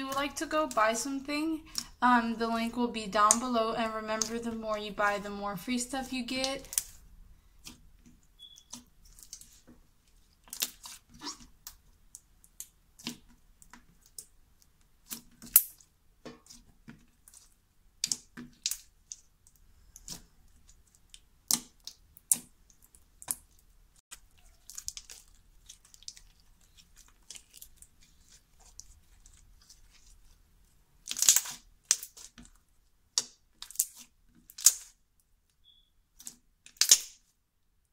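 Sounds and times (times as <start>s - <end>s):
slime popping and crackling: 0.0s - 9.6s, 10.2s - 30.4s, 31.0s - 35.0s, 36.2s - 37.3s.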